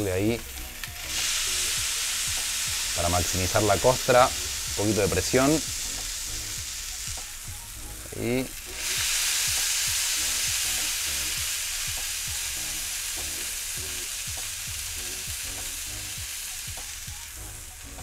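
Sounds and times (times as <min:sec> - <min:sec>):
burger patties sizzling on griddle: 0:00.0 - 0:18.0.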